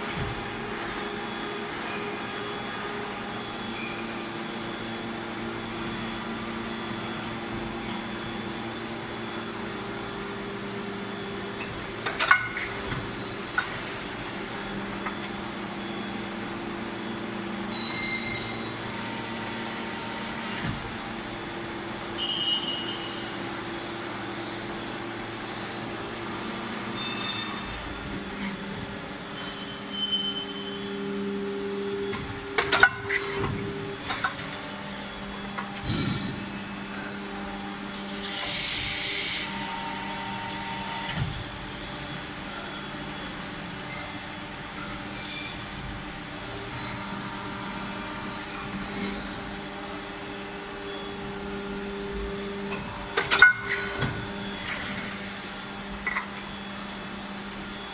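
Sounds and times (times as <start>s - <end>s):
machine mechanical hum: 0.0s - 57.9s.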